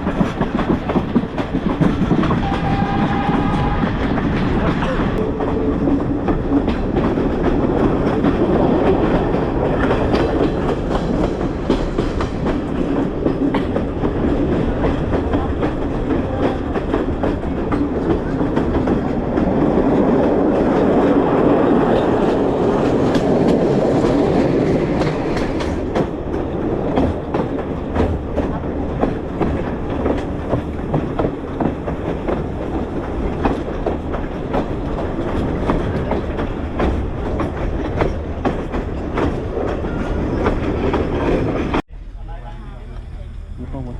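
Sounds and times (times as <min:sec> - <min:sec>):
clickety-clack over rail joints: 0:00.0 - 0:43.5
train wheels rumbling on rails: 0:00.0 - 0:43.9.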